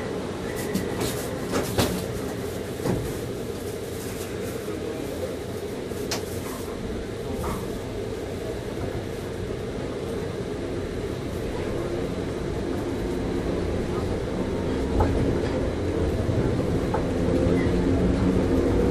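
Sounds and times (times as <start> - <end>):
train humming at station: 0.0 - 18.9.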